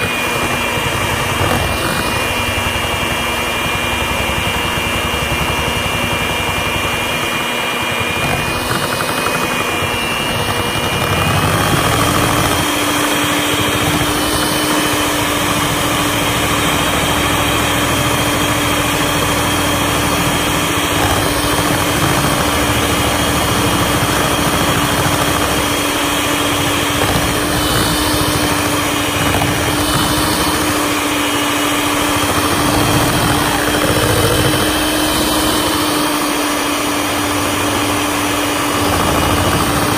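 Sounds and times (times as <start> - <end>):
electric hand mixer whipping cream: 0.0 - 39.9.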